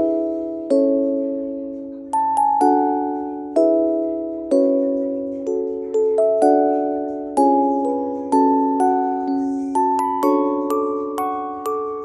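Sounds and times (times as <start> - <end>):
gentle struck notes music: 0.0 - 12.0.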